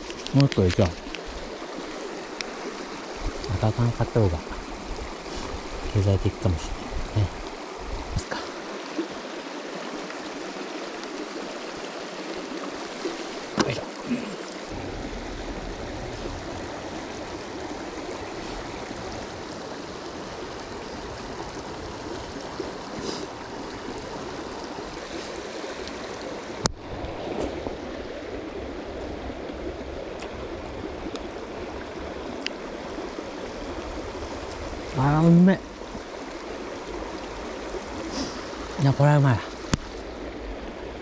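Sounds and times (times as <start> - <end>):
river flowing over rocks: 0.0 - 41.0.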